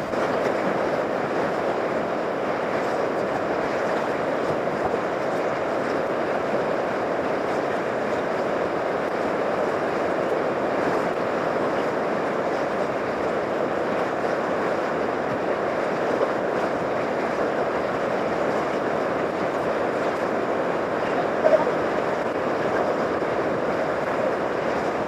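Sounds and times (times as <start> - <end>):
river whitewater rushing: 0.0 - 25.0.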